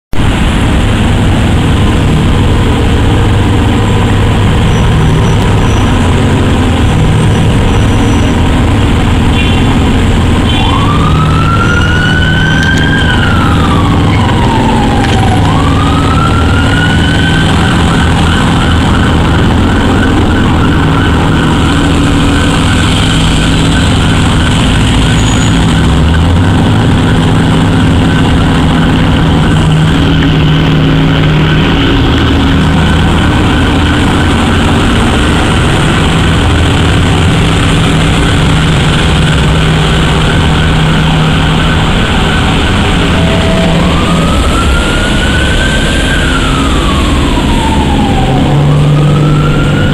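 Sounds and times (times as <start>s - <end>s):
emergency siren wailing: 0.1s - 49.9s.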